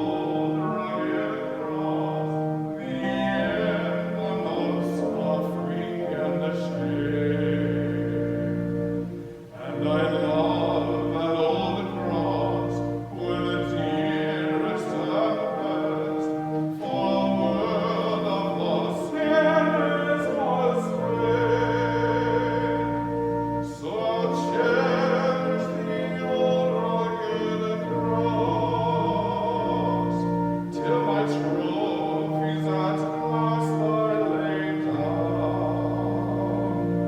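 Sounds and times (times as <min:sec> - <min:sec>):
instrumental accompaniment: 0:00.0 - 0:37.0
operatic singing: 0:00.0 - 0:37.0.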